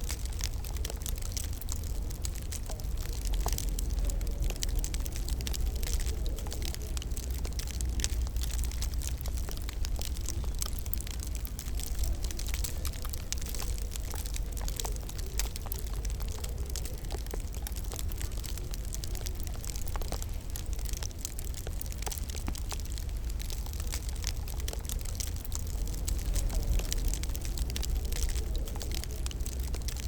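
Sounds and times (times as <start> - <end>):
low rumble of fire: 0.0 - 30.0
wood fire crackling and popping: 0.0 - 30.0.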